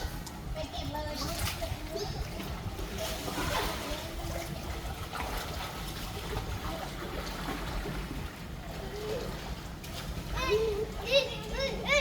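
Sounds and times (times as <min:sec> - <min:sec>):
faint children's voices: 0:00.0 - 0:12.0
water splashing and sloshing: 0:00.0 - 0:12.0.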